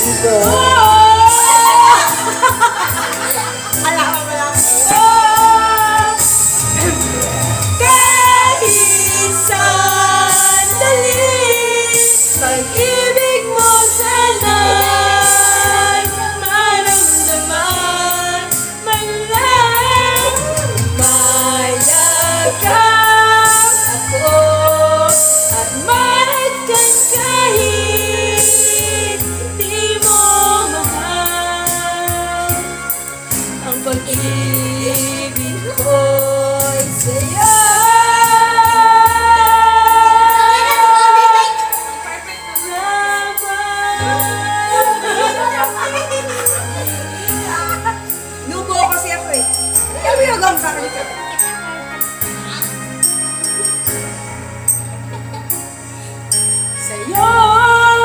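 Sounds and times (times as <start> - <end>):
woman singing: 0.0 - 6.9, 7.8 - 51.2, 56.8 - 58.0
backing track with steady beat: 0.0 - 58.0.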